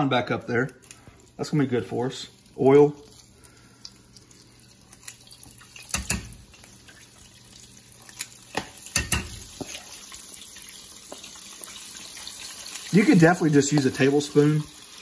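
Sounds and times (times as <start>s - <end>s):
oil sizzling: 0.2s - 15.0s.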